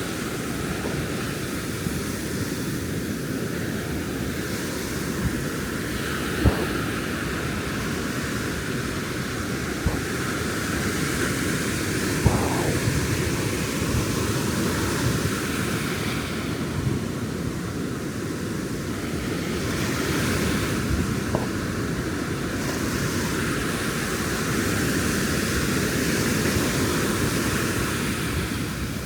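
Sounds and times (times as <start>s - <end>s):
ocean surf on beach: 0.0s - 29.0s.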